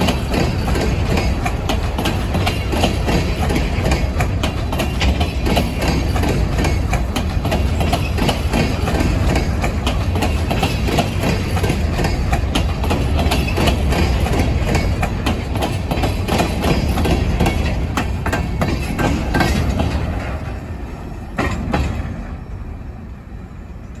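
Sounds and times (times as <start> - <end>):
train wheel clack: 0.0 - 22.8
train wheels rumbling and clicking: 0.0 - 24.0.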